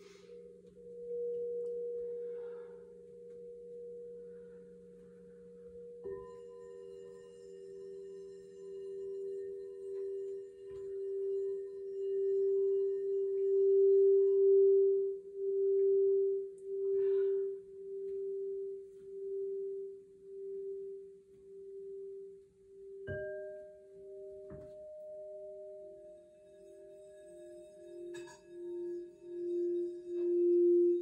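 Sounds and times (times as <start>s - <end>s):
singing bowl ringing: 0.0s - 31.0s.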